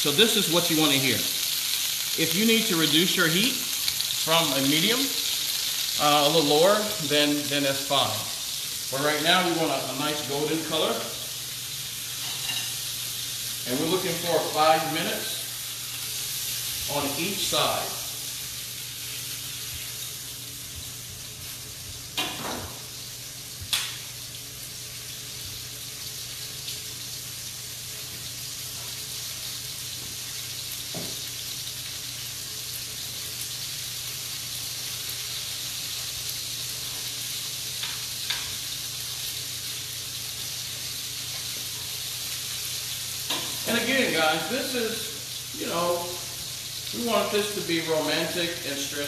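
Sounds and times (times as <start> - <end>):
chicken sizzling in a pan: 0.0 - 49.0.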